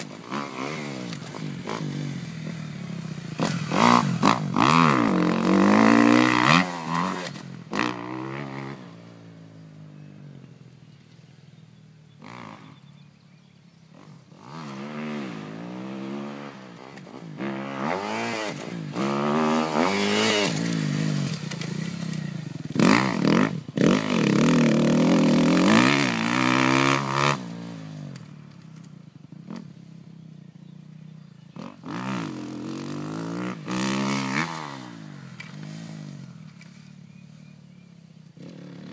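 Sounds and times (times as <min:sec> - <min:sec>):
dirt bike engine revving: 0:00.0 - 0:10.3, 0:12.1 - 0:13.2, 0:13.9 - 0:28.3, 0:31.6 - 0:38.9.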